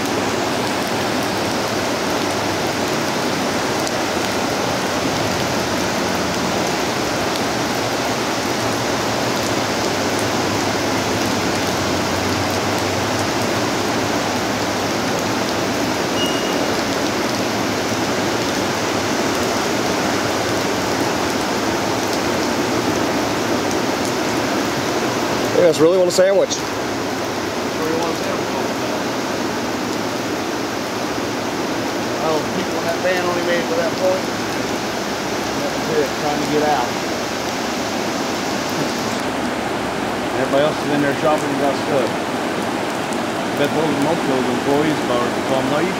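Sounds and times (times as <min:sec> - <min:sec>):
floodwater roaring: 0:00.0 - 0:45.9.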